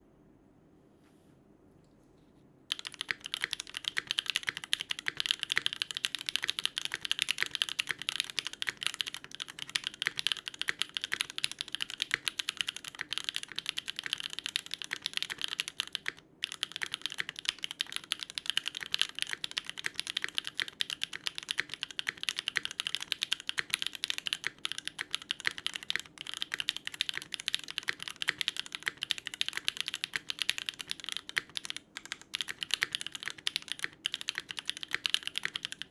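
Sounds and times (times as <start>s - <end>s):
mechanical keyboard typing: 2.7s - 35.9s.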